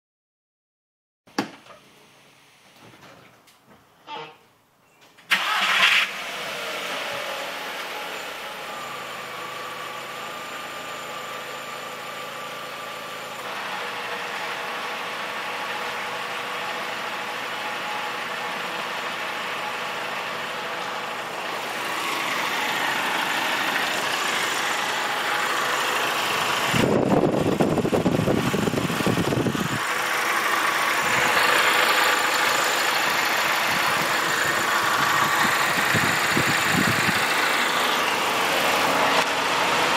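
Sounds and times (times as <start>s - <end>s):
car engine idling: 5.4s - 39.9s.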